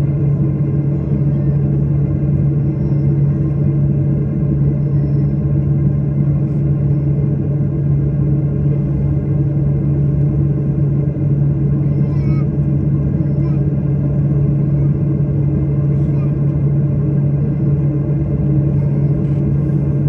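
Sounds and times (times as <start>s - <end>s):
constant low hum: 0.0s - 20.0s
jet engines droning: 0.0s - 20.0s.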